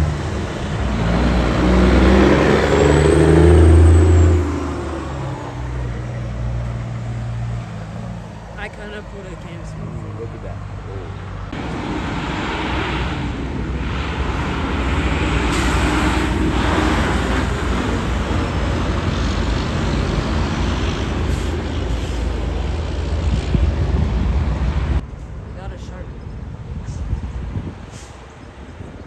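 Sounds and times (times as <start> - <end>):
diesel truck engine drone: 0.0 - 29.0
tyre and road noise: 0.0 - 29.0.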